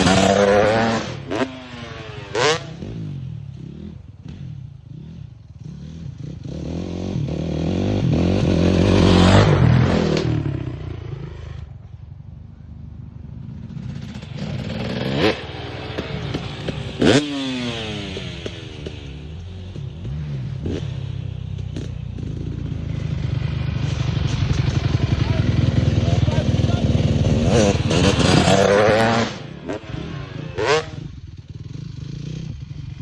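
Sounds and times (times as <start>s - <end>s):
dirt bike engine revving: 0.0s - 11.7s, 13.5s - 33.0s.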